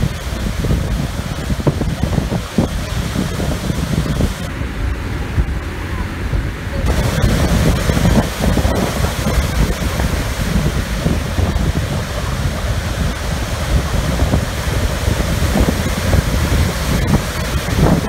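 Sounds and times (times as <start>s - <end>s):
waves breaking over rocks: 0.0s - 18.0s
wind buffeting microphone: 0.0s - 18.0s.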